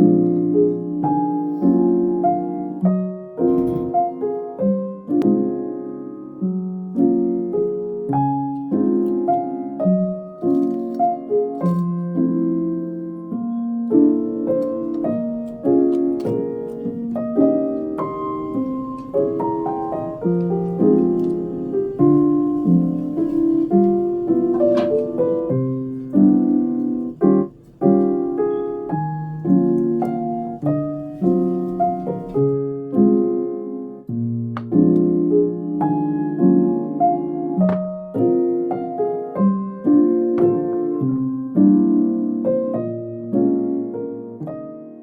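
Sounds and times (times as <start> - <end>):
solo piano piece: 0.0 - 45.0.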